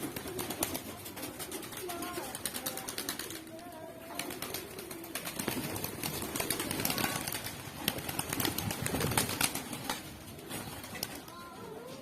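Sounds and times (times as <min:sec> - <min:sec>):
pigeon wings flapping: 0:00.0 - 0:12.0.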